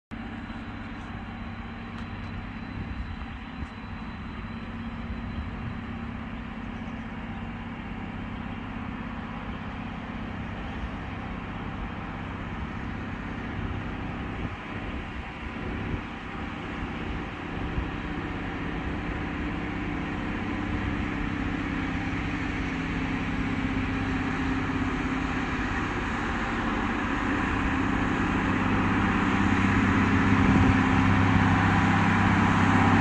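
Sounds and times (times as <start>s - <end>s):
vehicle engine drone: 0.1s - 33.0s.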